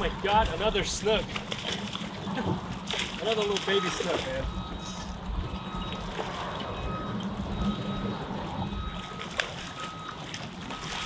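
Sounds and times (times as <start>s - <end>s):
fish splashing: 0.0s - 11.0s
water sloshing against pilings: 0.0s - 11.0s.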